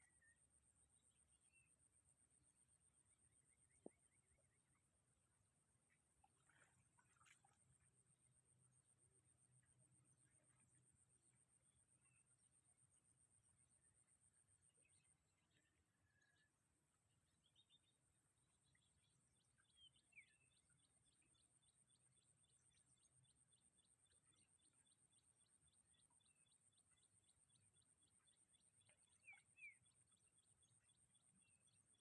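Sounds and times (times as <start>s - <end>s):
faint high-pitched ticking: 0.0s - 32.0s.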